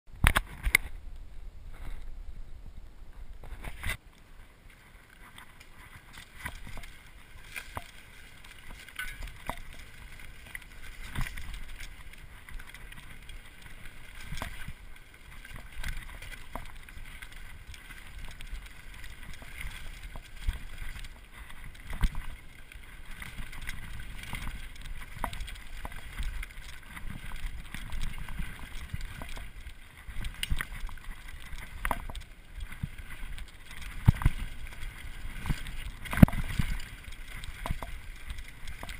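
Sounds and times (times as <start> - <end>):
tyres rolling on dirt and leaves: 3.3 - 38.9
bike knocking and rattling: 5.2 - 38.9.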